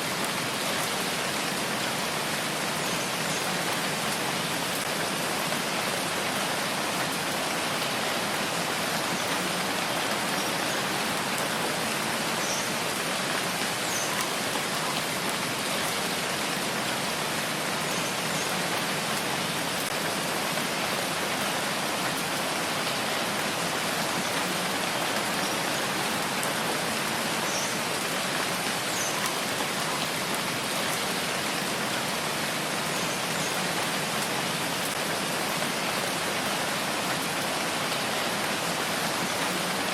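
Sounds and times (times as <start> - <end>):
faint raindrops: 0.0 - 39.9
rainfall hiss: 0.0 - 39.9.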